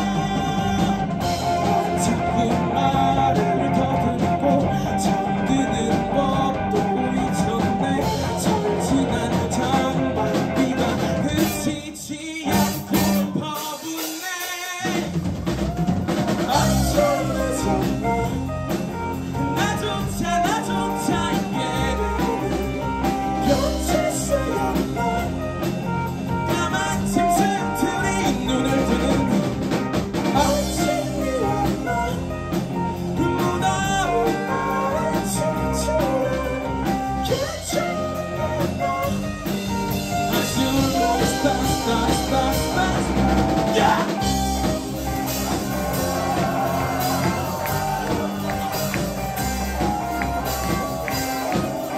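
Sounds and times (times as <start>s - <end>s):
electric guitars: 0.0s - 11.8s, 14.8s - 51.9s
bass guitar: 0.0s - 51.9s
drum kit: 0.0s - 51.9s.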